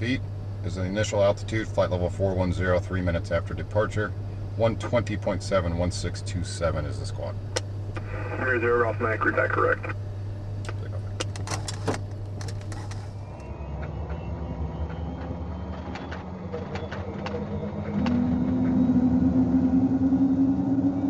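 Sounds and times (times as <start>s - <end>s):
faint rising whine: 0.0s - 10.6s, 12.5s - 21.0s
steady hum: 0.0s - 21.0s.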